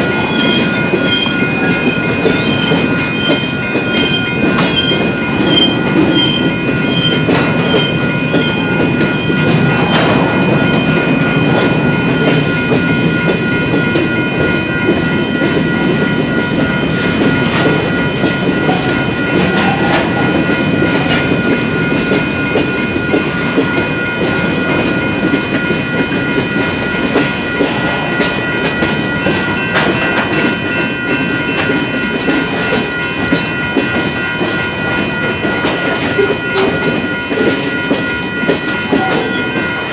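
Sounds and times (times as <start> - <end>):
crossing bell dinging: 0.0 - 39.9
freight train rumbling: 0.0 - 39.9
train wheels clacking: 0.0 - 39.9.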